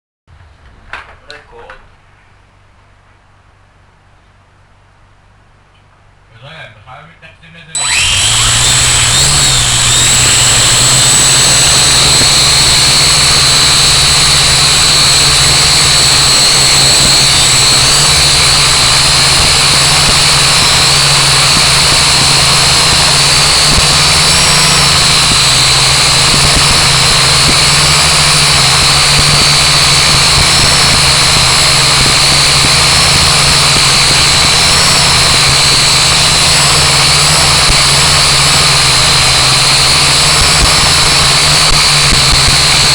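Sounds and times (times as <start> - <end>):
quadcopter motors whining: 7.8 - 42.9.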